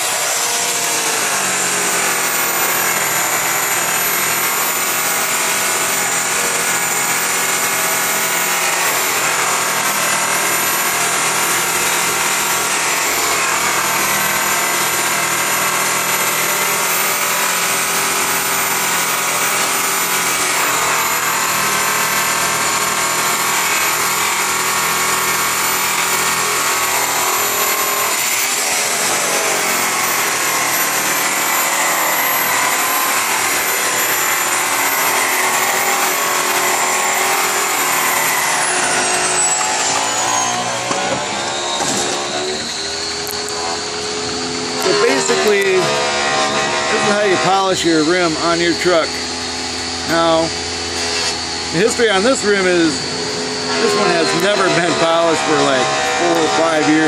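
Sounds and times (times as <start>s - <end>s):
electric buffer motor whine: 0.0s - 57.0s.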